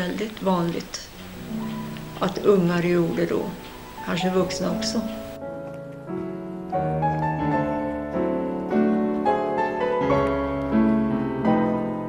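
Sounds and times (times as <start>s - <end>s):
slow piano music: 1.1s - 12.0s.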